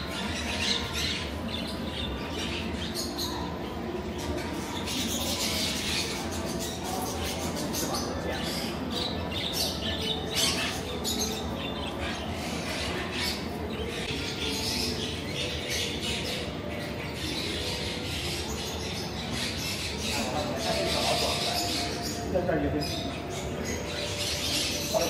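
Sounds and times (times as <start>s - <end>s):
birds chirping and squawking: 0.0s - 25.0s
busy background noise: 0.0s - 25.0s.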